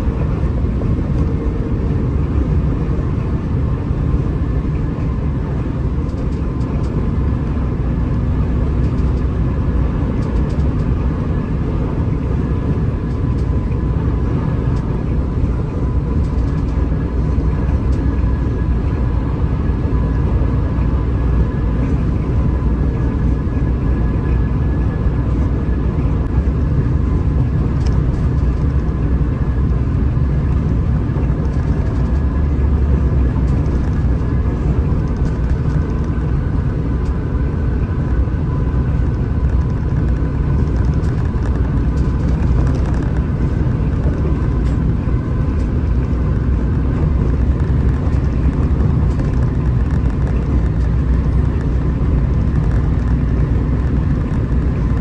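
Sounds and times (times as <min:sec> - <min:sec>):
bus engine and road noise: 0:00.0 - 0:55.0.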